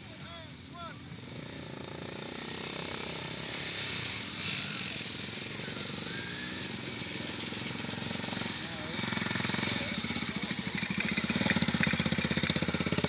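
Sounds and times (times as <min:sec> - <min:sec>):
motorcycle engine approaching: 0:00.0 - 0:13.0.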